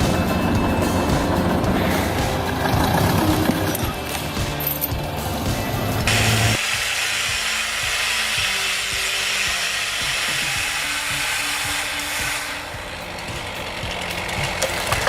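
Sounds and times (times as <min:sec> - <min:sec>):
chainsaw cutting wood: 0:00.0 - 0:15.0
engine running: 0:00.0 - 0:15.0.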